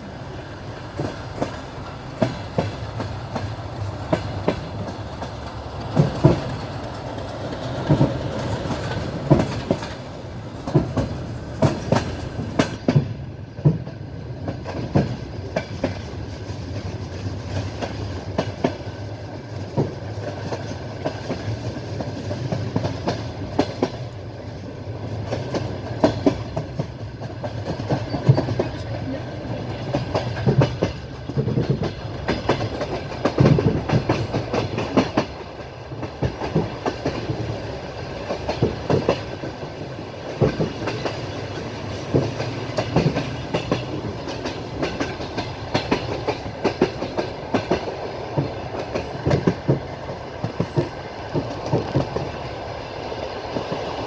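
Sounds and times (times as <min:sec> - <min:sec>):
train low rumble: 0:00.0 - 0:54.0
train wheels clicking on rail joints: 0:00.0 - 0:54.0.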